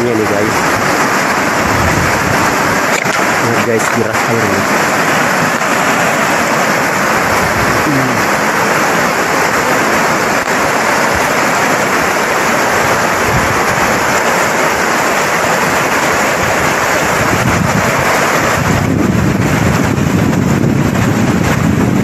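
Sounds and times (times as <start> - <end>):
river current rushing: 0.0 - 22.0.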